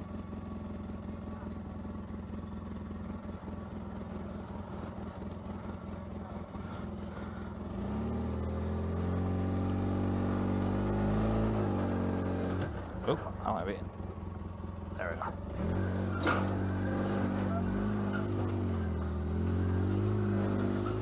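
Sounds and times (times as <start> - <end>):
engine idling and revving: 0.0 - 21.0.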